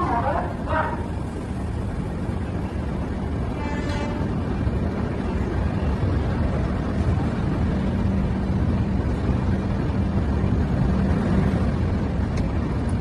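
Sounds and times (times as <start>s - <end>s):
train wheels rolling over rails: 0.0s - 13.0s.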